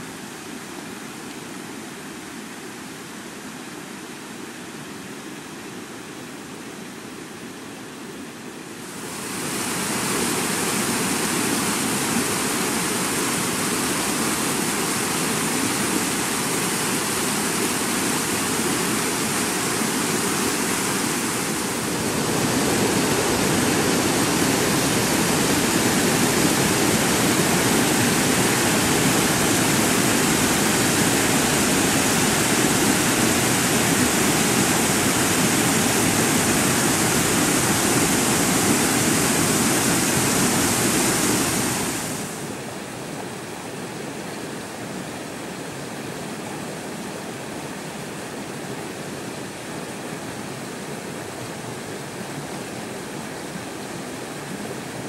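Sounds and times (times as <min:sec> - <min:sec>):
flood water rushing over rocks: 0:08.8 - 0:55.0.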